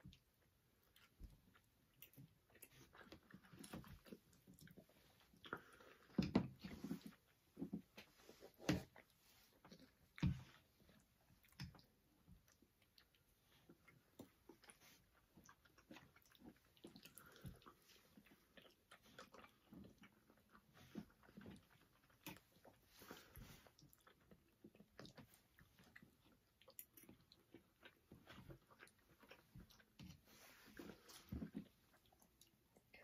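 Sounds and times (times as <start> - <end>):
people chewing: 0.1 - 33.0.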